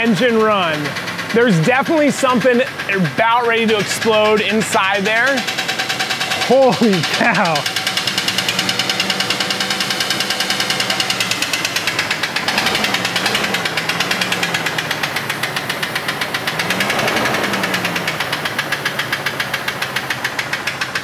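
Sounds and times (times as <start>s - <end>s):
engine revving: 0.0s - 21.0s
engine running with rod knock: 0.0s - 21.0s.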